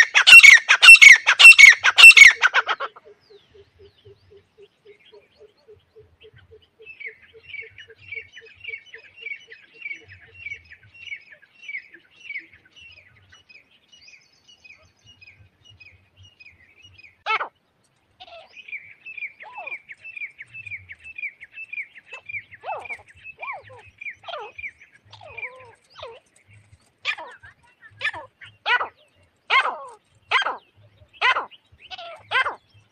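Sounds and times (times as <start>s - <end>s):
partridge chirping: 0.0s - 32.9s.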